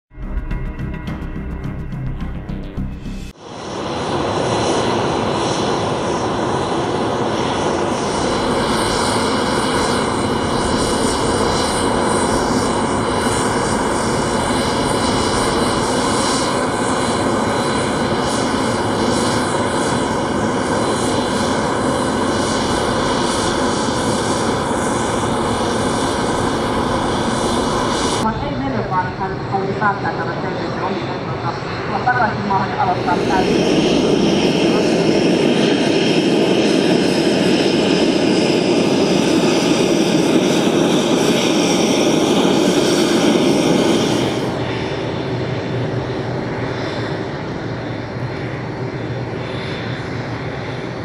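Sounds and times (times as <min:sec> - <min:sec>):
aircraft engine running: 0:00.1 - 0:51.0.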